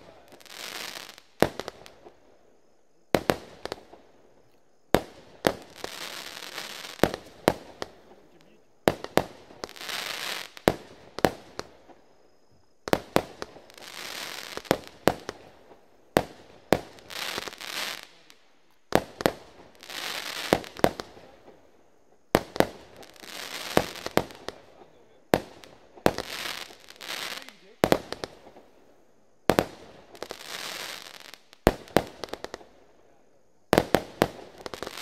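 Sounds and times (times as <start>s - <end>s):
firework bangs: 0.0s - 2.2s, 3.1s - 4.2s, 4.9s - 12.2s, 12.8s - 21.7s, 22.3s - 28.8s, 29.4s - 32.8s, 33.7s - 35.0s
firework crackling hiss: 0.0s - 2.5s, 3.1s - 12.1s, 12.8s - 35.0s.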